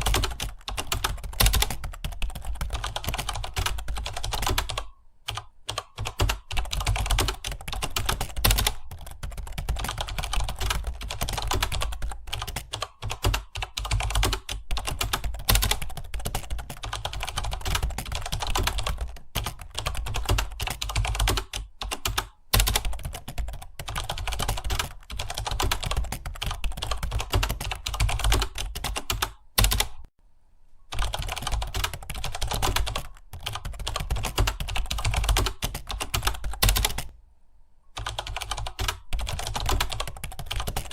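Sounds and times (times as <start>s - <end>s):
keyboard typing: 0.0s - 30.1s, 30.9s - 37.2s, 37.9s - 40.9s.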